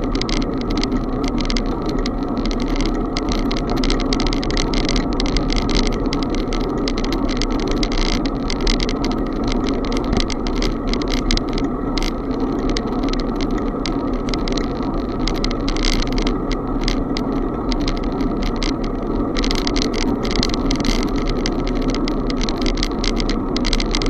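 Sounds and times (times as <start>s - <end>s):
rattling ticks: 0.0s - 24.0s
wind and tyres on road: 0.0s - 24.0s.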